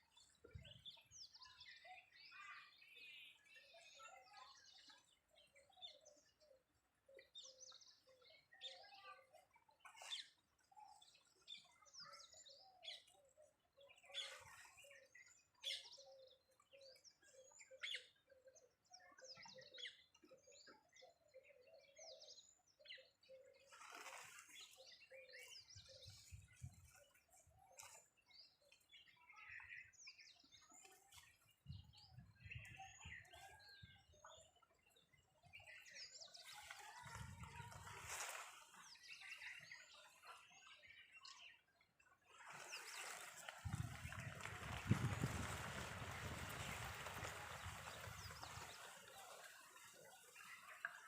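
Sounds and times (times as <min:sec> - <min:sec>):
birds chirping: 0:10.0 - 0:51.0.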